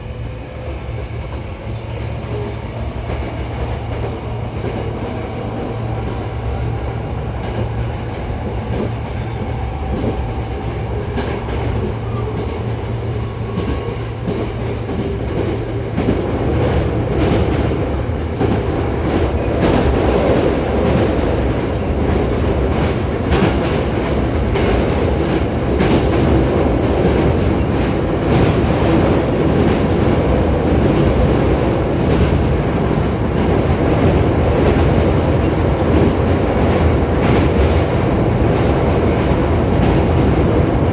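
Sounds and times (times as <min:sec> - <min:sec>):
train running hum: 0:00.0 - 0:40.9.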